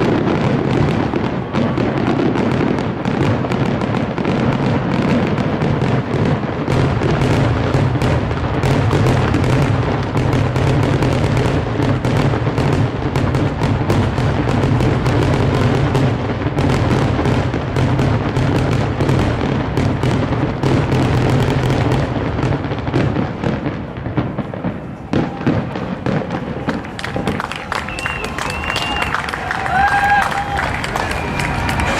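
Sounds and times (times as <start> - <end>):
fireworks booming and crackling: 0.0 - 31.9.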